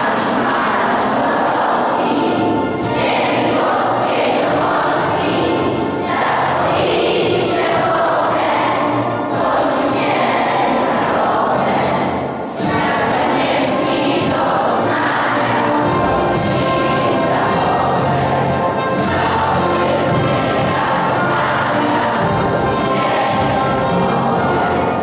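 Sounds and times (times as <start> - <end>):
children's choir singing: 0.0 - 25.0.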